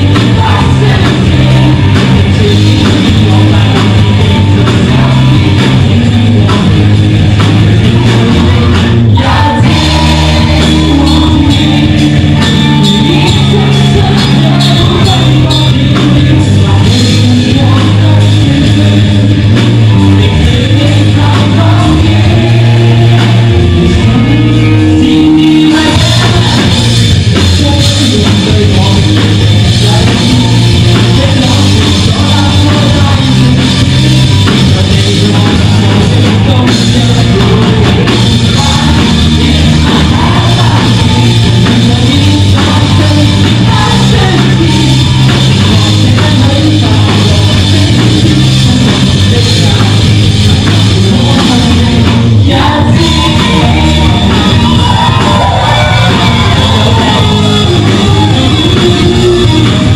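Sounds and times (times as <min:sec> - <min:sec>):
live rock band playing: 0:00.0 - 0:59.9
person singing: 0:00.0 - 0:59.9.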